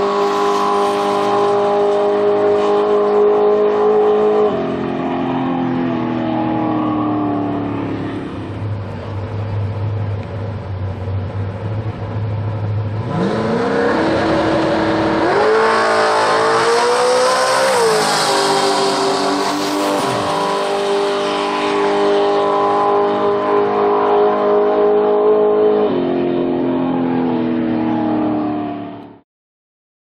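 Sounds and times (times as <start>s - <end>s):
drag car engine at full throttle: 0.0s - 29.2s.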